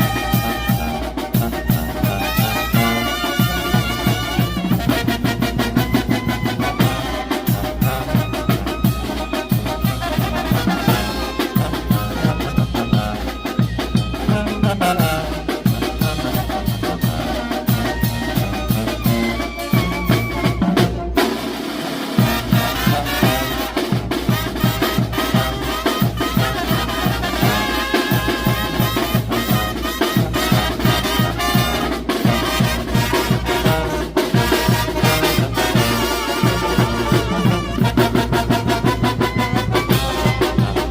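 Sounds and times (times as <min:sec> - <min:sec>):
drums: 0:00.0 - 0:40.9
low brass: 0:00.0 - 0:40.9
trumpets and trombones: 0:00.0 - 0:40.9.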